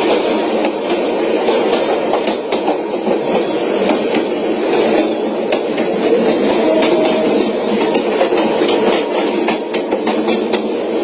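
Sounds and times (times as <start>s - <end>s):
train rumbling on track: 0.0s - 11.0s
wheels clicking over rail joints: 0.0s - 11.0s.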